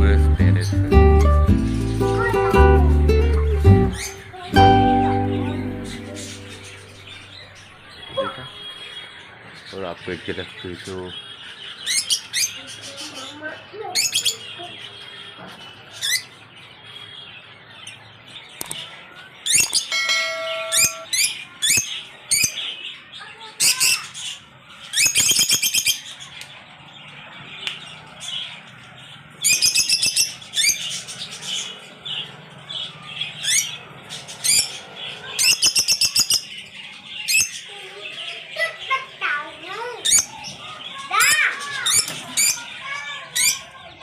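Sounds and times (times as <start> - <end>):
parrots chirping and chattering: 0.0 - 44.0.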